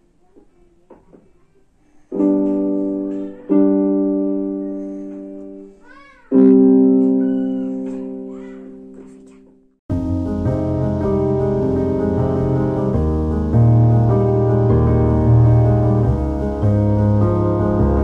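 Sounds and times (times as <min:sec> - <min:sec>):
keyboard piano chords: 0:02.1 - 0:18.0.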